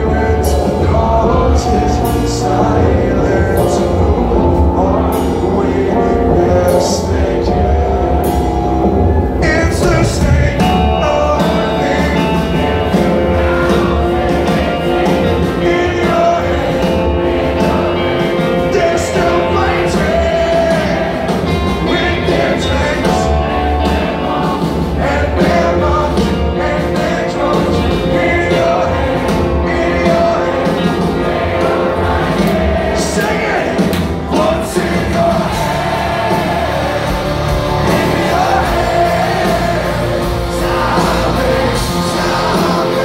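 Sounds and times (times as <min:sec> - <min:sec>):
person singing: 0:00.0 - 0:43.0
rock band playing live: 0:00.0 - 0:43.0.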